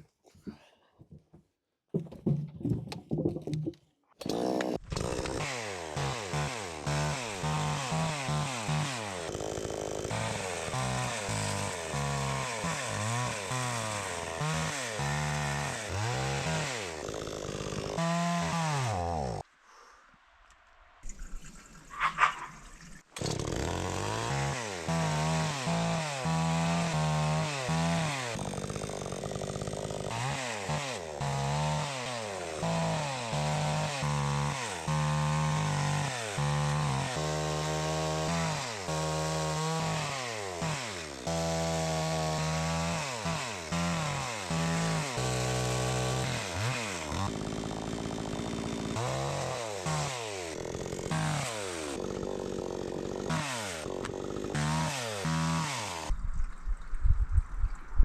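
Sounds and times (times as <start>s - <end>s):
chainsaw cutting logs: 1.9s - 19.5s, 23.2s - 56.2s.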